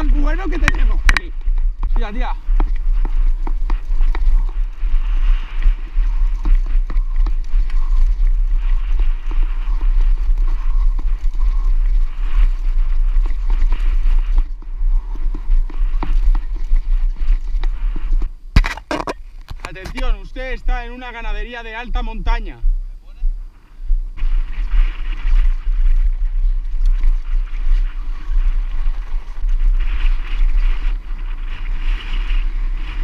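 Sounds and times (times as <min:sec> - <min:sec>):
bike rattling over bumps: 0:00.0 - 0:22.2, 0:23.9 - 0:33.0
wind rumble on microphone: 0:00.0 - 0:33.0.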